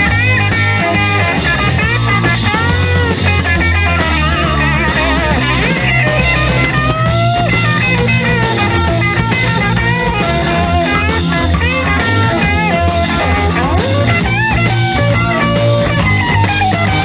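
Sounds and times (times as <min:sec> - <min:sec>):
bass line: 0:00.0 - 0:17.0
drum kit: 0:00.0 - 0:17.0
lead electric guitar bending notes: 0:00.0 - 0:17.0.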